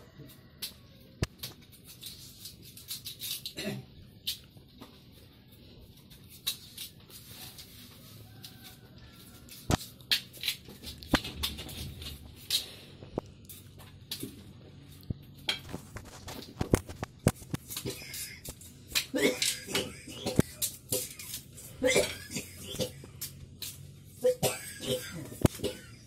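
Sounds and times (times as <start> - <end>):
knives cutting and scraping roots: 0.4 - 4.5, 6.1 - 14.3, 15.4 - 26.0.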